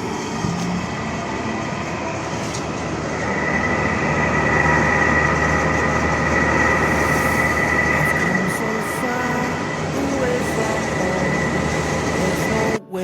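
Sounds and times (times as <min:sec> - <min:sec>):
high motor whine: 0:00.0 - 0:12.8
air conditioner motor running: 0:00.8 - 0:12.8.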